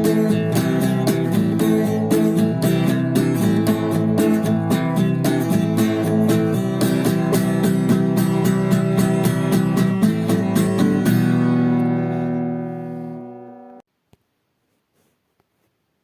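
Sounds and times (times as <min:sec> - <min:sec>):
ringing final guitar chord: 0:00.0 - 0:13.8
strummed guitar chords: 0:00.0 - 0:13.8.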